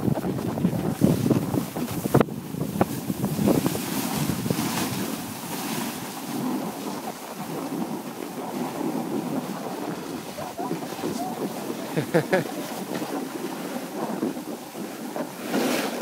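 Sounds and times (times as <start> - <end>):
wind rushing over microphone: 0.0 - 16.0
snow swishing under board: 0.1 - 16.0.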